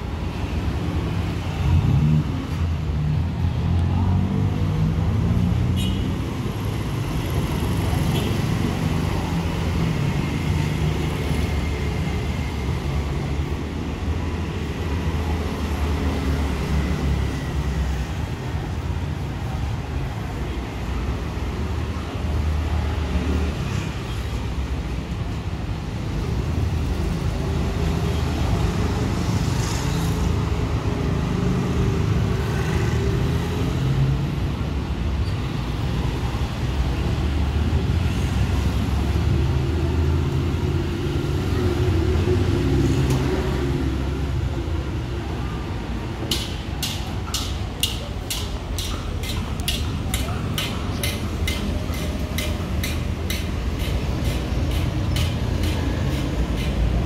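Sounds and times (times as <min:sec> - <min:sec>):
car engines passing close: 0:00.0 - 0:57.0
road traffic: 0:00.0 - 0:57.0.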